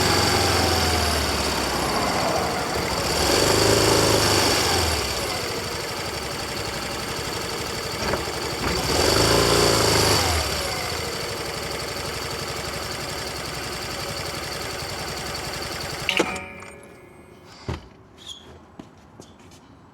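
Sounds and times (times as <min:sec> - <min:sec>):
scooter engine idling: 0:00.0 - 0:16.1.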